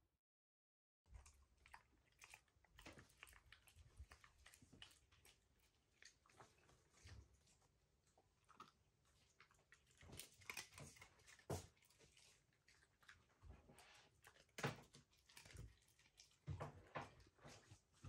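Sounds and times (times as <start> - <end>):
dog crunching dry kibble: 1.2 - 7.3, 8.4 - 17.2.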